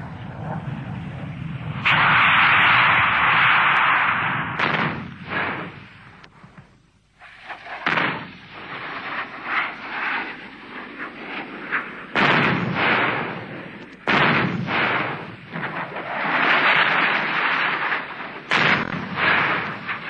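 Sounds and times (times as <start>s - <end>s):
heavy explosions: 0.0s - 6.6s, 7.4s - 10.7s, 12.0s - 20.0s
smaller bangs: 0.6s - 6.8s, 7.6s - 9.5s, 12.0s - 20.0s.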